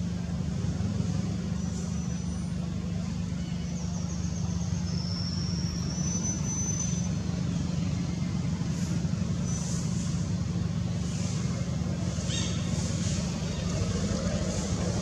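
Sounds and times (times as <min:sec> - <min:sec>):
low motor-like rumble: 0:00.0 - 0:15.0.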